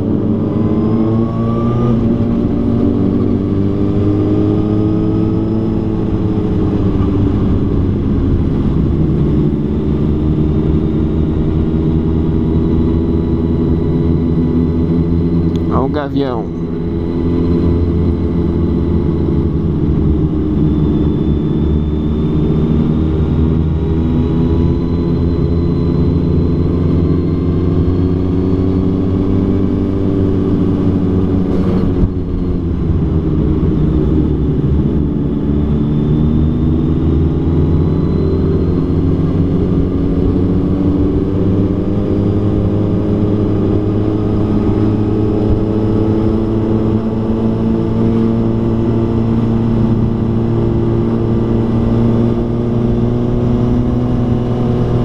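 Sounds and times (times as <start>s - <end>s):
vehicle engine running: 2.0s - 55.0s.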